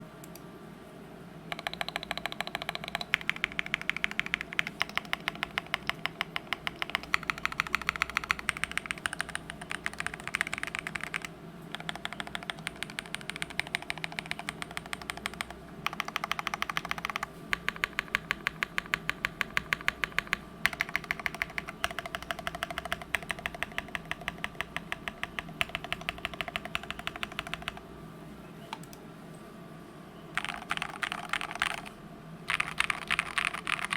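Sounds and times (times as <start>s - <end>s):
mechanical keyboard typing: 1.5s - 27.8s, 30.4s - 33.9s.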